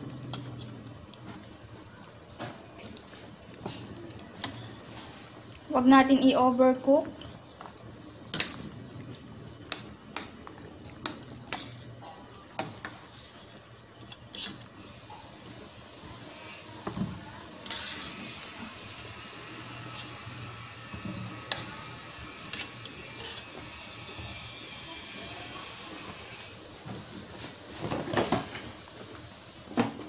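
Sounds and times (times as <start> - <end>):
water boiling in pot: 0.0 - 30.0.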